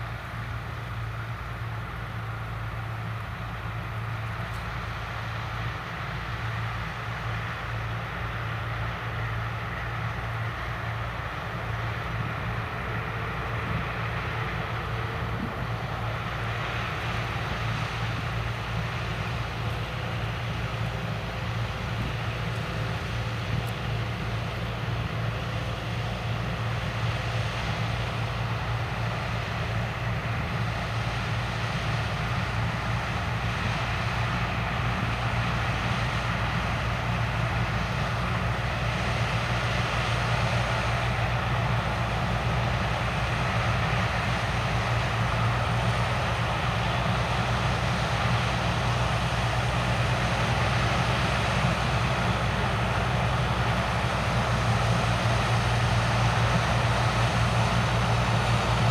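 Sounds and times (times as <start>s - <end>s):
diesel farm machinery droning: 0.0s - 58.9s.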